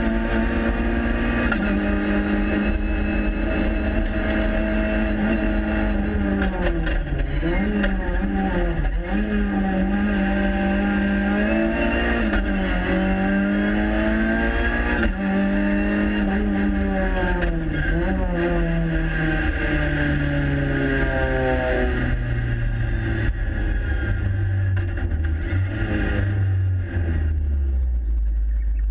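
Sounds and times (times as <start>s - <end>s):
race car engine revving: 0.0s - 28.7s.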